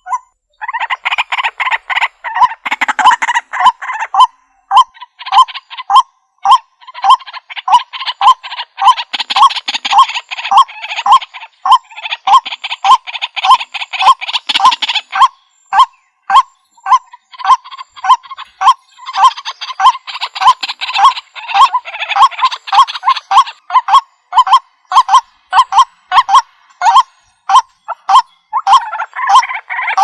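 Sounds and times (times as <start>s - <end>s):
bird harsh croaking calls: 0.0s - 30.0s.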